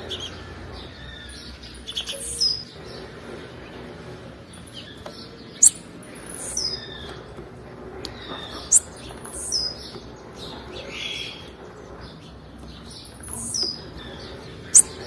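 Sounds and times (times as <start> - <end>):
soft high bird chirps: 0.1 - 2.9, 4.6 - 7.3, 8.1 - 15.0.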